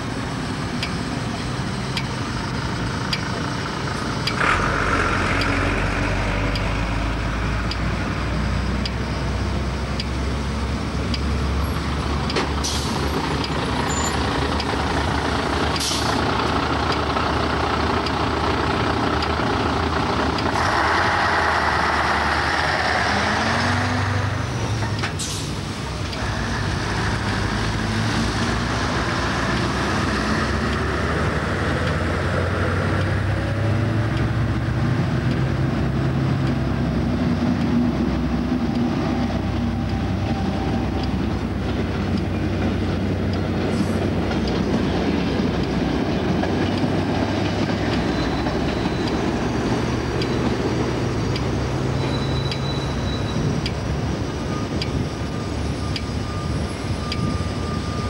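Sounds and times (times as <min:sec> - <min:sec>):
vehicle engines rumbling: 0:00.0 - 0:58.0.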